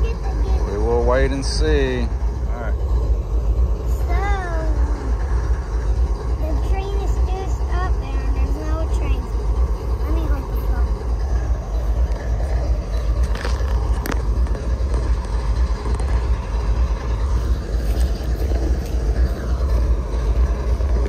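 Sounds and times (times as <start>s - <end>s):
diesel locomotive idling: 0.0s - 21.0s.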